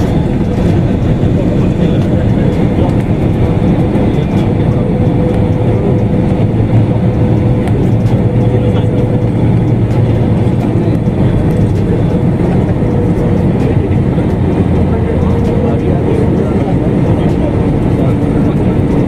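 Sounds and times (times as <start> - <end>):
airliner cabin roar: 0.0 - 19.0
steady hum: 0.0 - 19.0.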